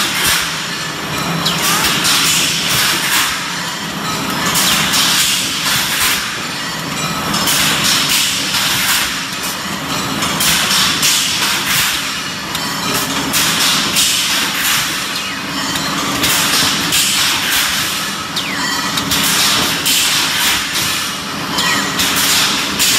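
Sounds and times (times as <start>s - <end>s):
machine hissing and clattering: 0.0s - 6.7s, 7.3s - 22.9s.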